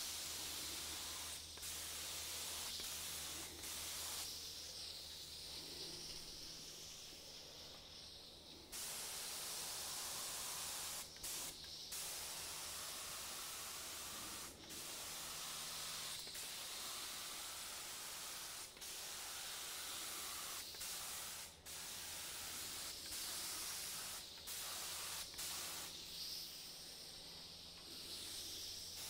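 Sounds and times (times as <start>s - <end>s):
spray gun hissing: 0.0s - 29.0s.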